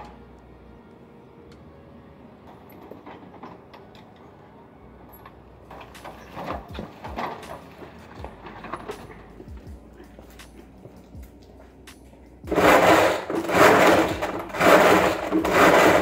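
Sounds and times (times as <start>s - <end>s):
mower chassis knocking and rattling: 2.4s - 16.0s.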